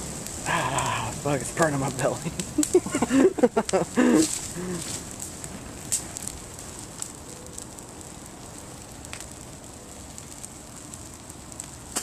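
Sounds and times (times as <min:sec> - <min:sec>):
burning tree crackling: 0:00.0 - 0:12.0
sharp pops of fire: 0:00.0 - 0:12.0.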